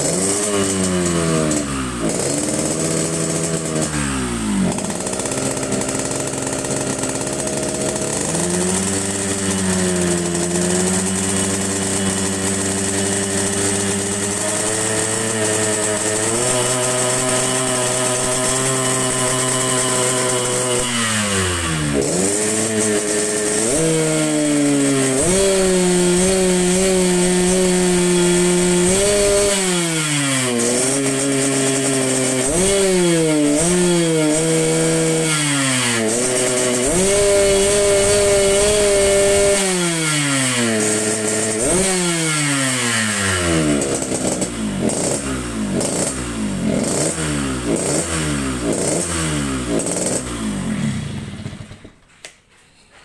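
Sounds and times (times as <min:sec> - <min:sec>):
motorcycle engine revving: 0:00.0 - 0:52.2.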